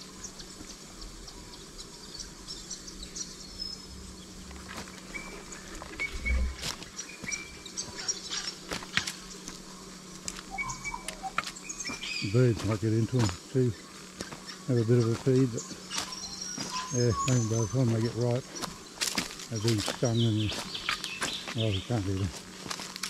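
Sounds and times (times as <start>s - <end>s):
insects: 0.0s - 23.0s
footsteps on dry leaves and stones: 4.4s - 23.0s.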